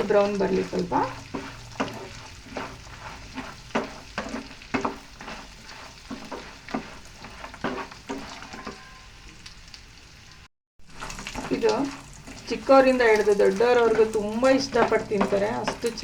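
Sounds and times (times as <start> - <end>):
spoon scraping a pan: 0.0 - 9.2, 10.9 - 16.0
oil sizzling: 0.0 - 16.0.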